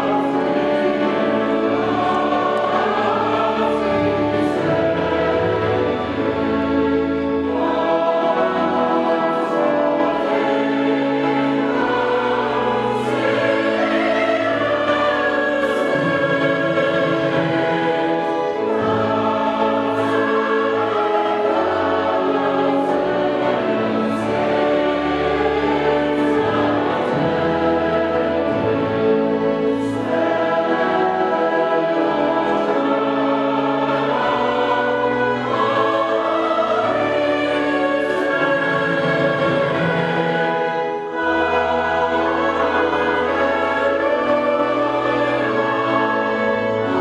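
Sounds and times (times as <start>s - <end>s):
choir singing sacred music: 0.0s - 47.0s.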